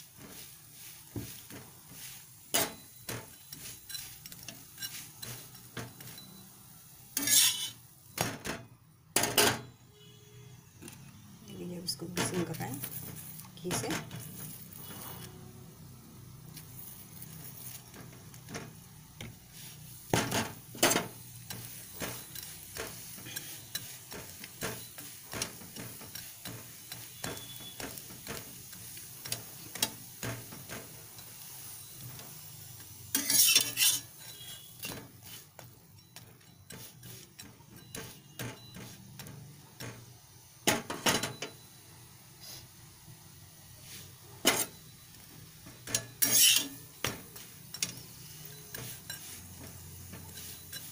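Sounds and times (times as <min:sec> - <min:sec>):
metal spatula scraping a pan: 0:00.0 - 0:08.0, 0:11.8 - 0:15.6, 0:16.5 - 0:40.1, 0:43.8 - 0:50.9
flatbread sizzling in pan: 0:00.0 - 0:50.9.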